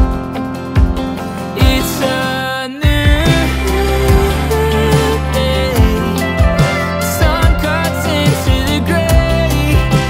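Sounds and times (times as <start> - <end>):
song with drums and bass: 0.0 - 10.0.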